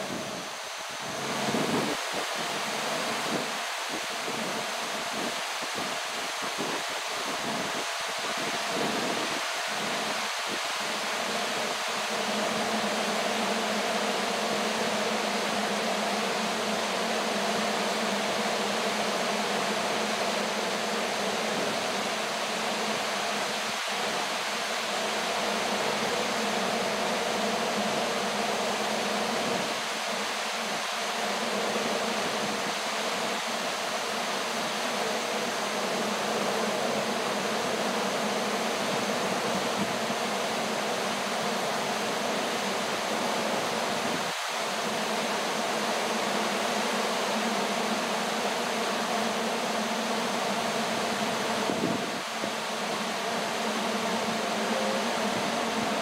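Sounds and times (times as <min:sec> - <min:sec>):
broad hiss: 0:00.0 - 0:56.0.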